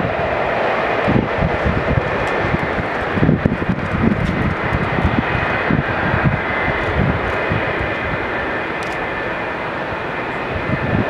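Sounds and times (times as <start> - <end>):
jet engines whining at low power: 0.0 - 11.0.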